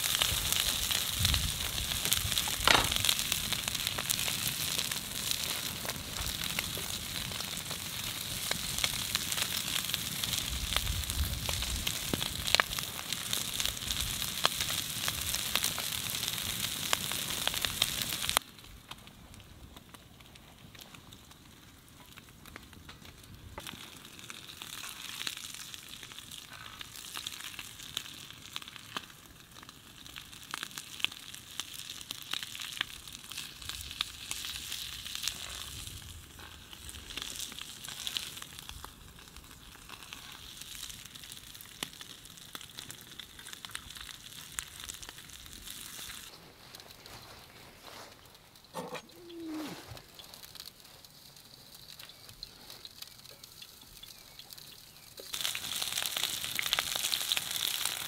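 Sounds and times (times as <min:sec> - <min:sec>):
meat sizzling in a frying pan: 0:00.0 - 0:18.5, 0:23.6 - 0:46.3, 0:50.0 - 0:58.0
small crackles and clicks: 0:00.0 - 0:58.0.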